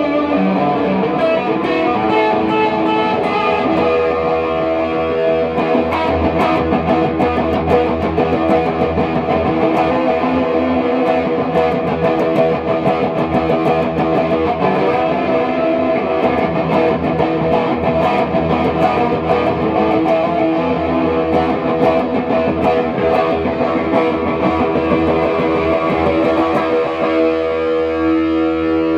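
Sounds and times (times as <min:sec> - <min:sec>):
electric guitar playing: 0:00.0 - 0:28.9.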